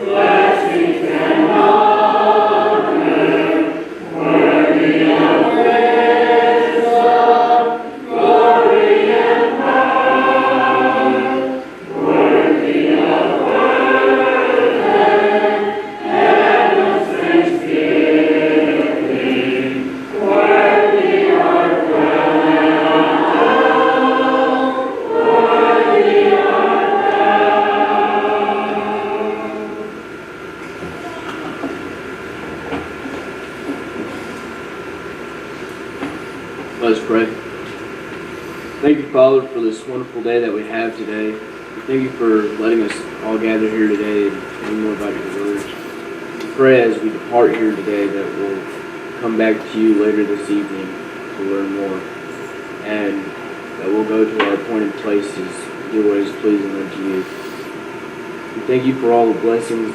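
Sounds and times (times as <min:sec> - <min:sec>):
congregation singing a hymn: 0:00.0 - 0:59.9
room hum: 0:00.0 - 0:59.9.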